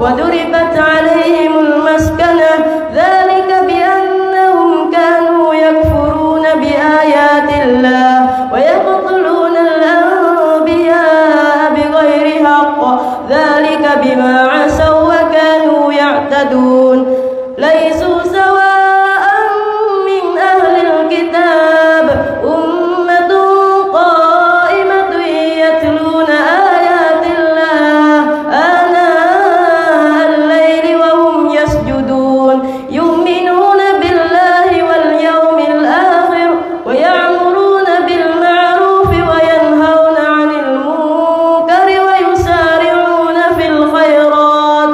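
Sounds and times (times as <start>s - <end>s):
boy reciting melodically: 0.0s - 44.9s.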